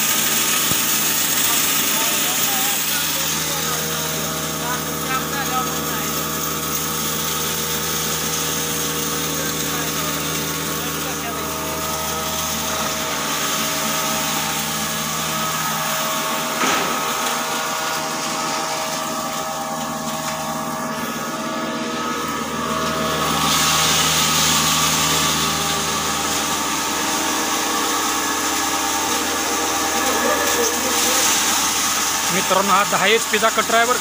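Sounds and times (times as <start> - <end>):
crushing machine hum and whine: 0.0 - 34.0.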